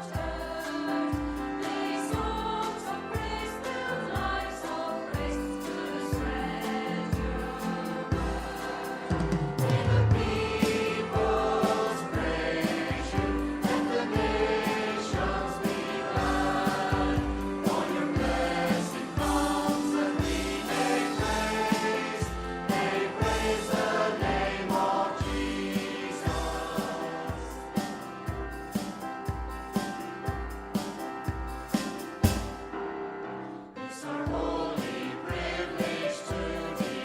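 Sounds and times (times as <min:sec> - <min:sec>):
group singing a hymn: 0:00.0 - 0:31.0, 0:33.9 - 0:37.0
steady drum beat: 0:00.0 - 0:32.8, 0:34.3 - 0:37.0
praise band playing: 0:00.0 - 0:37.0.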